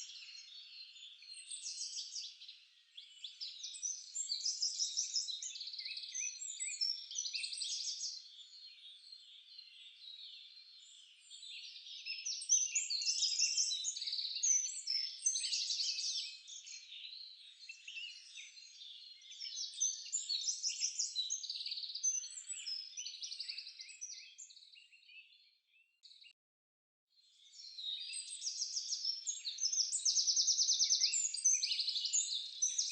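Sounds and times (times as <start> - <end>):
small birds chirping and trilling: 0.0 - 26.4, 27.2 - 32.9.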